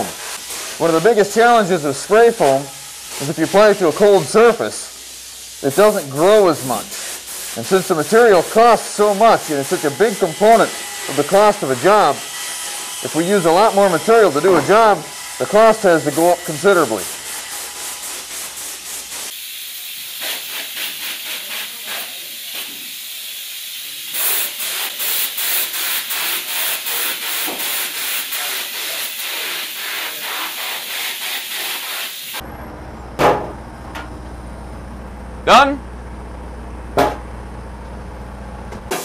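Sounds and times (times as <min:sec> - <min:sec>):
foam spray gun hissing: 0:00.0 - 0:32.4.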